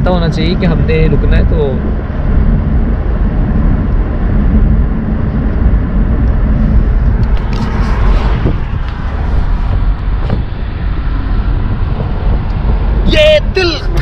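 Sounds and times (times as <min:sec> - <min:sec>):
road noise: 0:00.0 - 0:14.0
wind buffeting microphone: 0:00.0 - 0:14.0
wind rush: 0:00.0 - 0:14.0.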